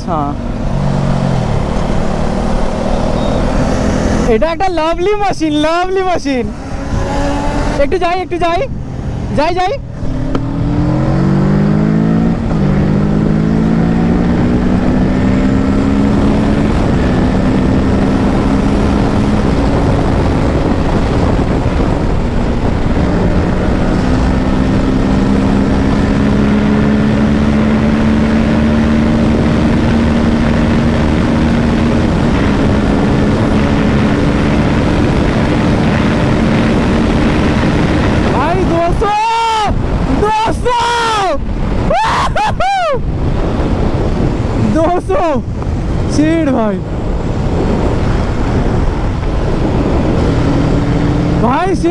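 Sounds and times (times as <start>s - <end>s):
motorcycle engine at full throttle: 0.0s - 40.4s, 43.0s - 51.9s
loud wind rush: 0.0s - 51.9s.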